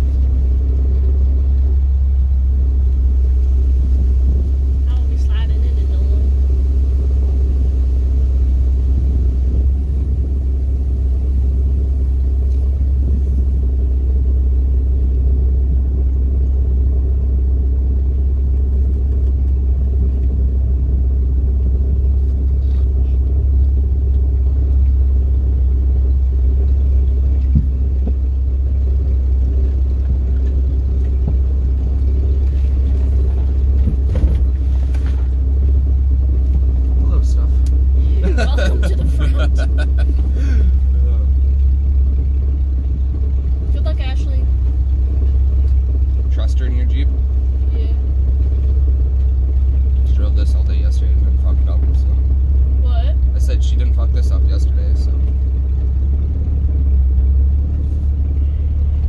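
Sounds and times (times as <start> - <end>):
vehicle engine low rumble: 0.0 - 59.0.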